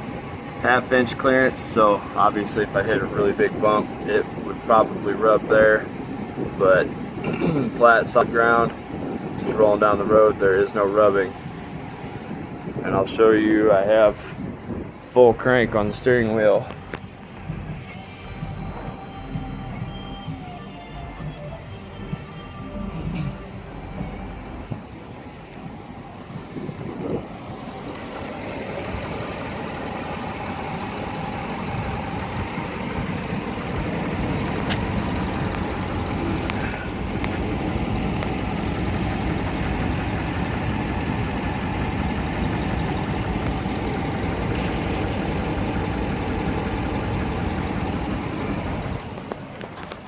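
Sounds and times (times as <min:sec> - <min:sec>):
pickup truck engine idling: 0:00.0 - 0:50.0.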